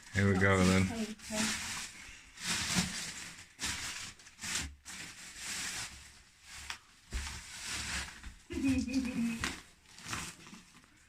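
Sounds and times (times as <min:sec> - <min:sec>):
packing paper crinkling: 0:00.0 - 0:11.0.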